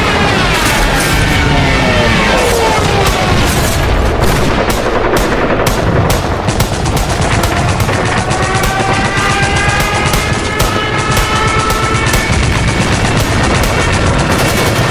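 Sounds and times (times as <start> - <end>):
background music: 0.0 - 14.9
explosion rumble: 0.0 - 14.9
rapid gunfire: 0.0 - 14.9.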